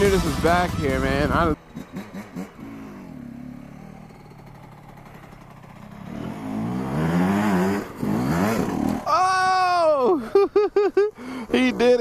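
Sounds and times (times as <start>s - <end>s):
dirt bike engine revving: 0.0s - 9.7s.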